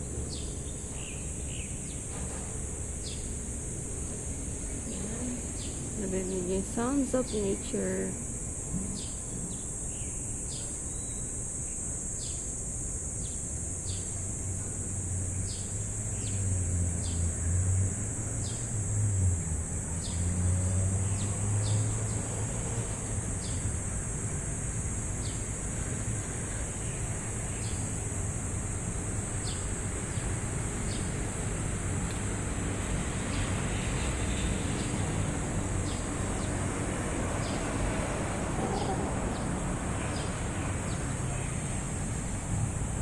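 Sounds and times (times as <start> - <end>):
crickets trilling: 0.0 - 43.0
traffic rumble: 0.0 - 43.0.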